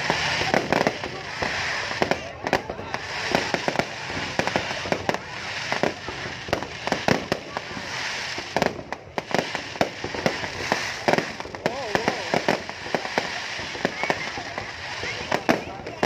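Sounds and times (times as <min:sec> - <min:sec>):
fireworks bangs and pops: 0:00.0 - 0:16.0.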